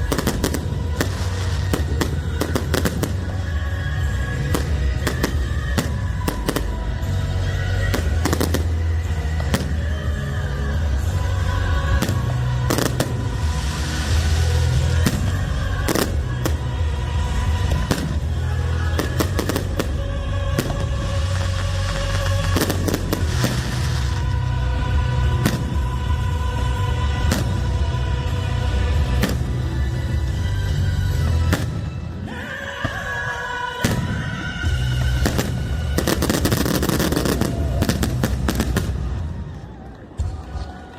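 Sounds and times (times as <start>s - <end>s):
fireworks bangs: 0.0s - 10.2s, 10.9s - 28.0s, 32.8s - 40.6s
fireworks crackling: 0.0s - 40.9s
music: 0.0s - 40.9s.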